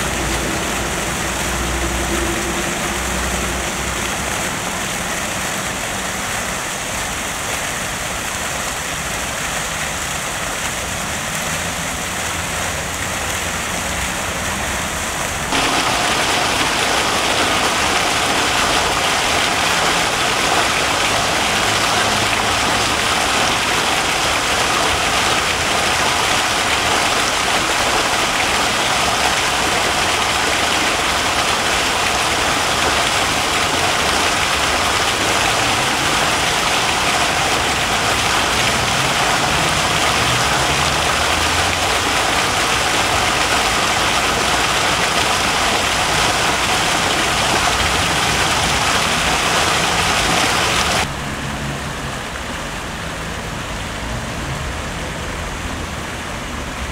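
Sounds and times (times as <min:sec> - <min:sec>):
fountain water splashing into basin: 0:00.0 - 0:56.9.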